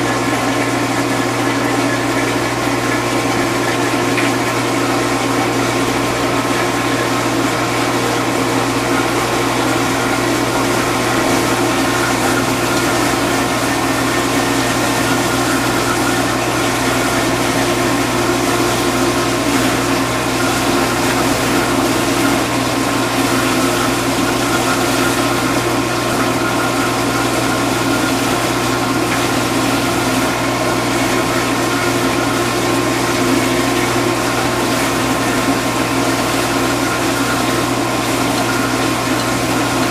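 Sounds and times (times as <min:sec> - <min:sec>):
dishwasher motor and pump hum: 0:00.0 - 0:39.9.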